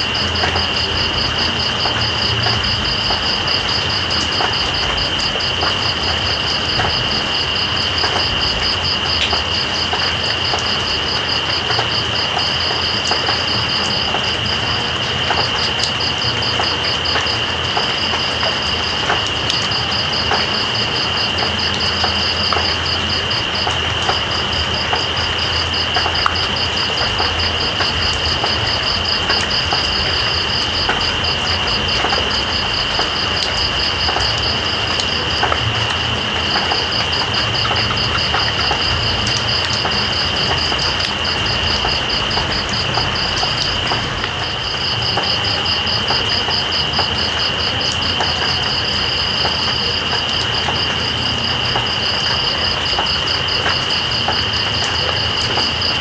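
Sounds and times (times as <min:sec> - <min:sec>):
raindrop ticks: 0:00.0 - 0:56.0
steady rain hiss: 0:00.0 - 0:56.0.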